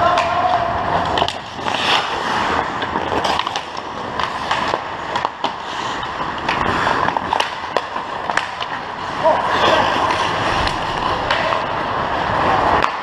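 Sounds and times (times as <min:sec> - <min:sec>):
skates scraping on ice: 0:00.0 - 0:13.0
sticks and puck clacking: 0:00.0 - 0:13.0.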